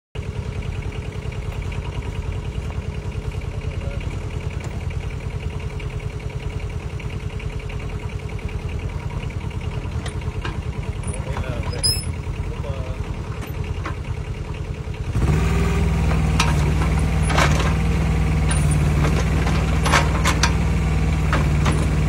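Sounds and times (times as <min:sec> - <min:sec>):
diesel engine idling: 0:00.2 - 0:22.0.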